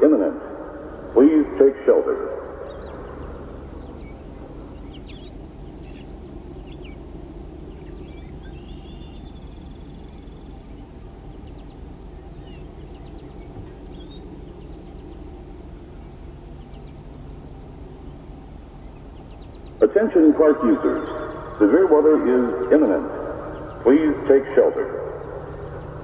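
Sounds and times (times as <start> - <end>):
birds chirping: 0.0 - 26.0
low background rumble: 0.0 - 26.0.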